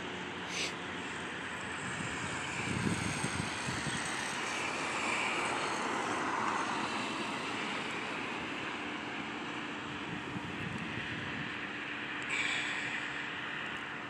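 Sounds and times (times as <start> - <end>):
vehicle noise rumble: 0.0 - 14.0.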